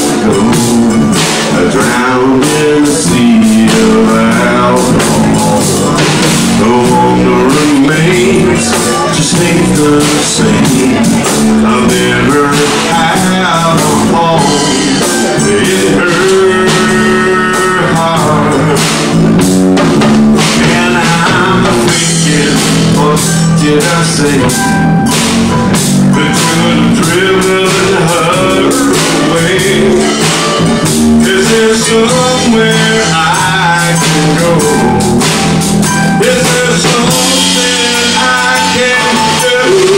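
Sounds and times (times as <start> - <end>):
blues band playing: 0.0 - 39.9
harmonica: 0.0 - 39.9.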